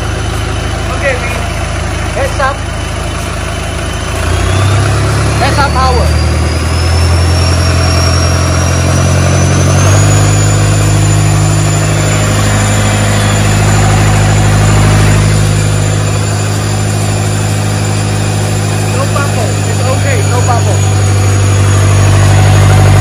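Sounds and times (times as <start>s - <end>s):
diesel engine humming: 0.0s - 23.0s
high thin turbo whine: 0.0s - 23.0s.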